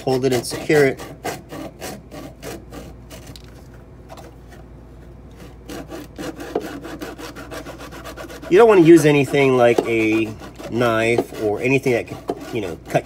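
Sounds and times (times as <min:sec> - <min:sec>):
rasping cutting strokes: 0:00.0 - 0:03.4, 0:05.3 - 0:13.0.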